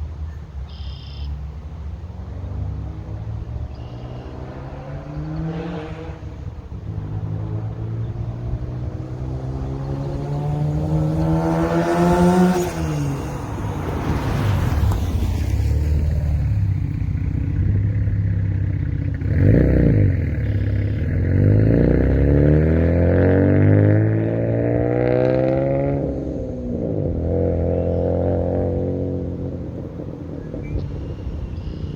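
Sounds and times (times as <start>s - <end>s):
car engine revving: 1.7s - 31.9s.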